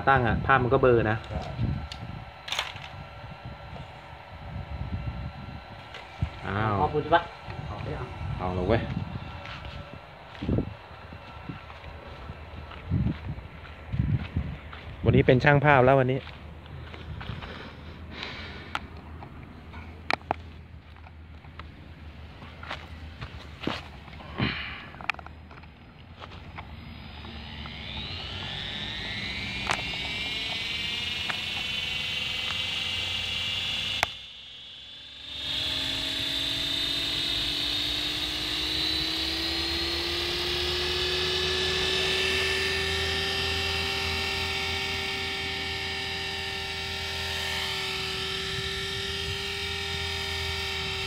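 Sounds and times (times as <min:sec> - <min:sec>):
rc helicopter motor whine: 0:00.0 - 0:51.0.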